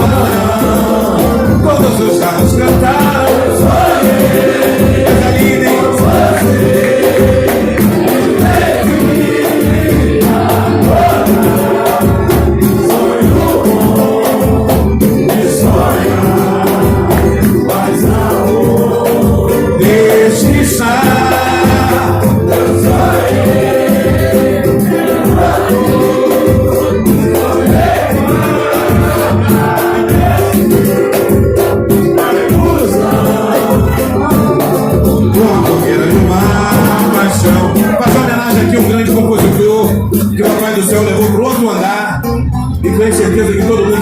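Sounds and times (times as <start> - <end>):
voices singing together: 0.0 - 42.2, 42.8 - 44.0
live band percussion: 0.0 - 44.0.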